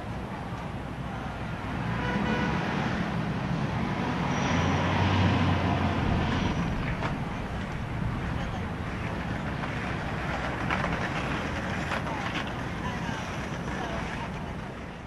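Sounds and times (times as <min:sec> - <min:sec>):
city street traffic: 0:00.0 - 0:15.0
vehicle passing: 0:01.1 - 0:15.0.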